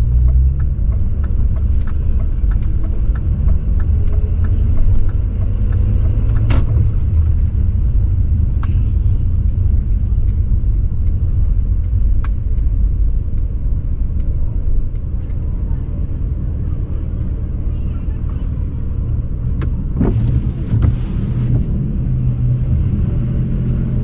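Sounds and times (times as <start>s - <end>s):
deep exhaust rumble: 0.0s - 24.0s.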